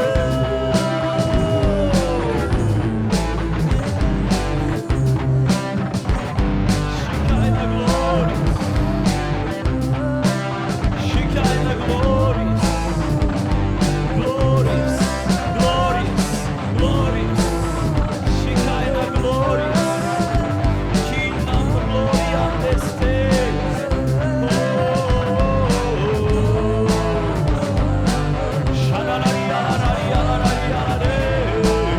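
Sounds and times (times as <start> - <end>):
bass guitar: 0.0 - 31.9
electric guitar: 0.0 - 31.9
steady drum beat: 0.0 - 31.9
worship band music: 0.0 - 31.9.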